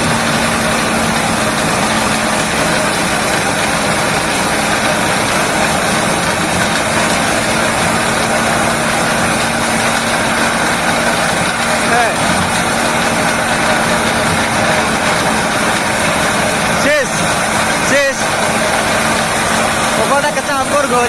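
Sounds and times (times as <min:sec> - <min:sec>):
engine-driven machine running: 0:00.0 - 0:21.0.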